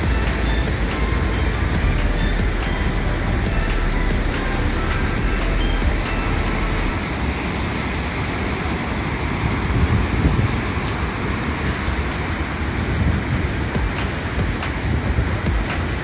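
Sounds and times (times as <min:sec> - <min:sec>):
water roaring below a dam: 0:00.0 - 0:16.0.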